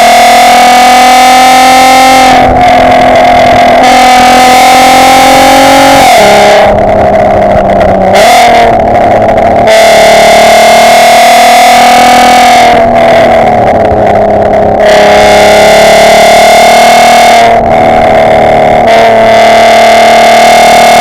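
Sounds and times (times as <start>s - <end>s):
car engine and exhaust rasping: 0.0s - 21.0s.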